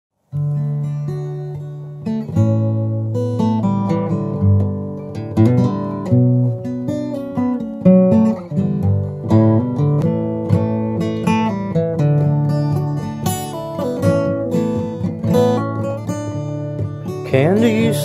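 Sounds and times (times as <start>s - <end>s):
acoustic guitar chords: 0.3s - 18.0s.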